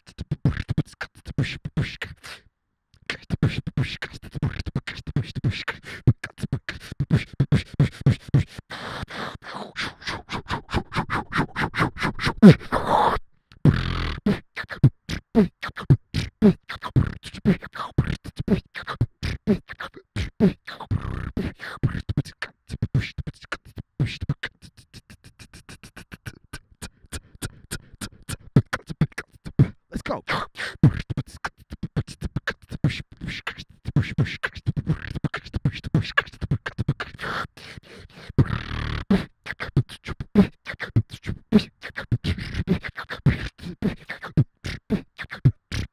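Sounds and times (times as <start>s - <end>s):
beatboxing into a microphone: 0.0s - 45.9s.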